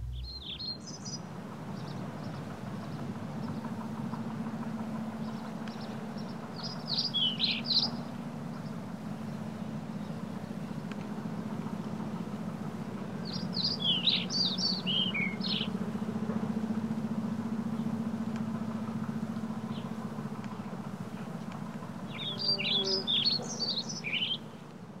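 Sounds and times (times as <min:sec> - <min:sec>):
songbird chirping: 0:00.0 - 0:25.0
steady low hum: 0:00.0 - 0:25.0.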